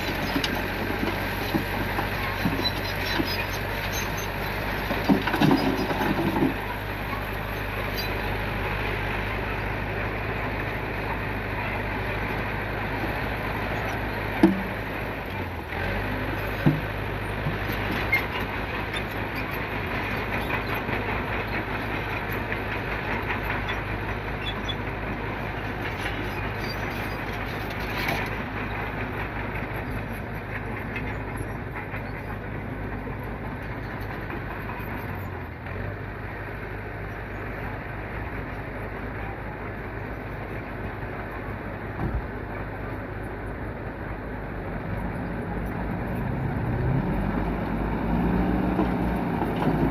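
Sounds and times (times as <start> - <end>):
truck engine hum: 0.0 - 49.9.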